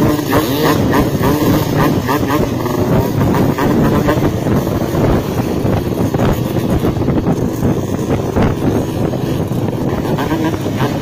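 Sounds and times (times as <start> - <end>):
two-stroke motorcycle engine running: 0.0 - 11.0
wind buffeting on microphone: 0.0 - 11.0.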